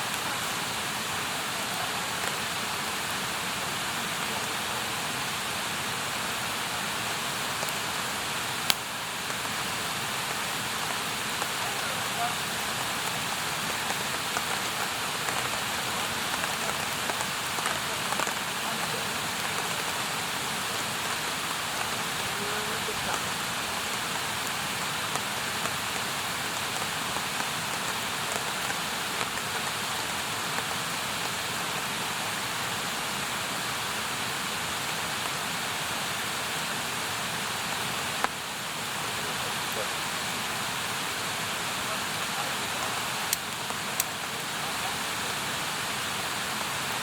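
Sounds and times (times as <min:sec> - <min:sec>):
campfire crackling and popping: 0:00.1 - 0:03.4, 0:04.5 - 0:31.5, 0:37.2 - 0:47.0.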